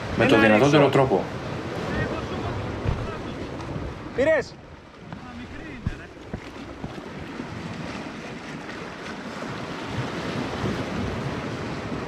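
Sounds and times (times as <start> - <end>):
waves washing on rocky shore: 0.0 - 12.0
wind rumbling on microphone: 1.2 - 12.0.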